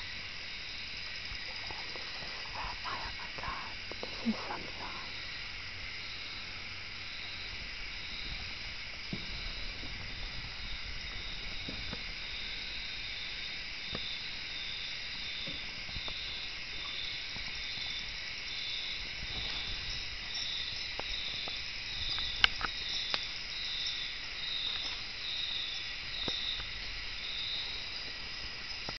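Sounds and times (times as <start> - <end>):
insects chorus: 0.0 - 28.9
pulsing high insect buzz: 0.0 - 28.9.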